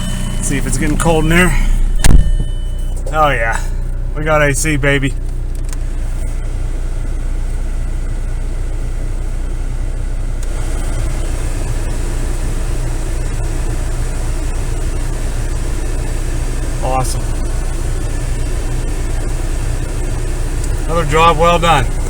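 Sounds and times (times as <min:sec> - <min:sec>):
air conditioning blower rushing: 0:00.0 - 0:07.2, 0:10.4 - 0:22.0
car engine idling: 0:00.0 - 0:22.0.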